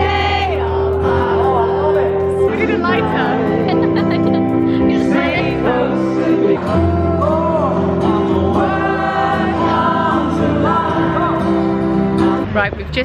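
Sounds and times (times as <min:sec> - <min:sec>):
man singing: 0:00.0 - 0:12.5
acoustic guitars: 0:00.0 - 0:13.0
piano: 0:00.0 - 0:13.0.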